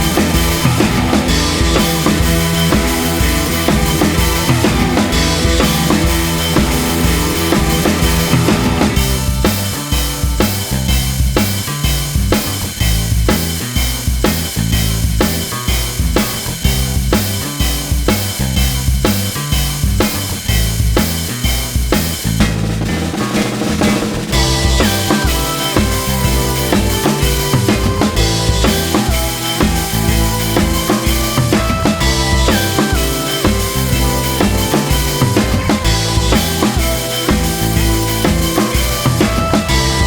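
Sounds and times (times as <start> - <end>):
drum kit beat: 0.0 - 40.0
stepping bass line: 0.0 - 40.0.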